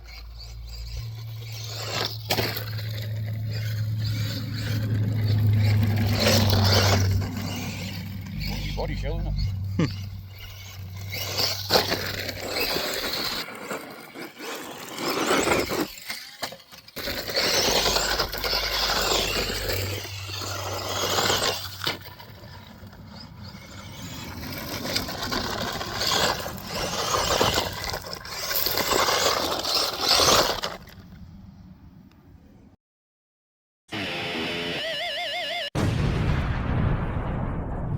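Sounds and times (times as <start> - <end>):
electric motor whining: 0.0 - 31.0, 33.9 - 35.5
tyres scrabbling on dirt: 0.0 - 31.2.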